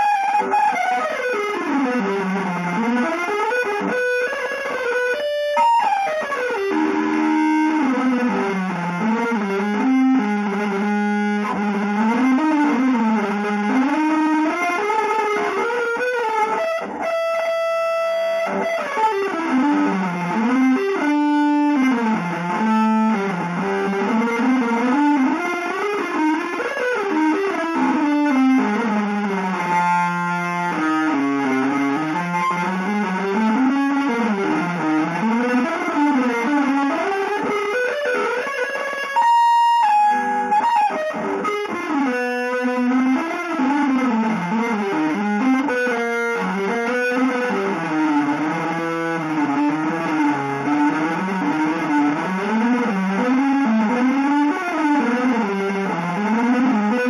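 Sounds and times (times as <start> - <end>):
electric guitar sliding pitch: 0.0 - 57.0.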